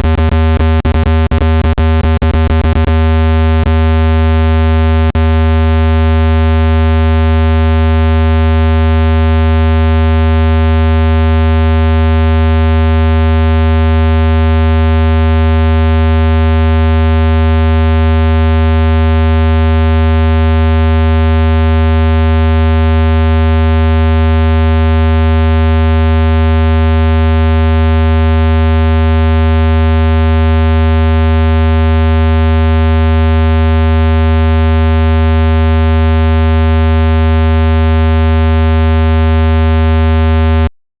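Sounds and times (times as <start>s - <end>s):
low-pitched electronic buzz: 0.0s - 40.8s.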